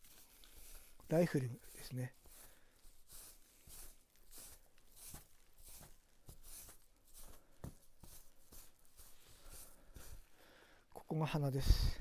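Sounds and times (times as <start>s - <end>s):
brush scratching through fur: 0.0s - 10.3s.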